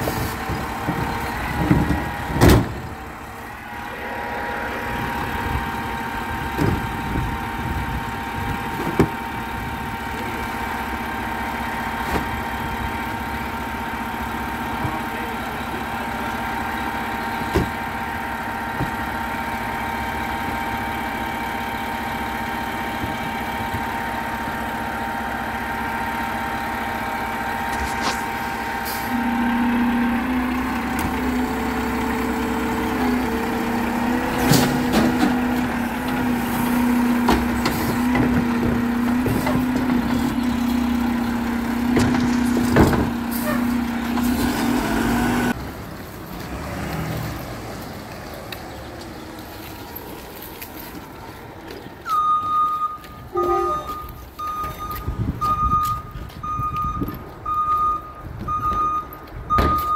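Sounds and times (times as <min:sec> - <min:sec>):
truck engine idling with whine: 0:00.0 - 0:59.9.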